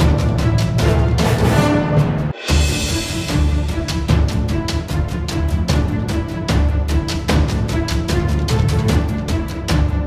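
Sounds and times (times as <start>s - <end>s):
music with driving beat: 0.0s - 10.0s.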